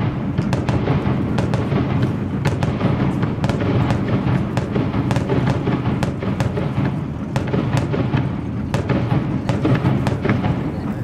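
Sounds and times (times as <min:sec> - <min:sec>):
continuous low rumble: 0:00.0 - 0:11.0
fireworks popping and banging: 0:00.0 - 0:11.0.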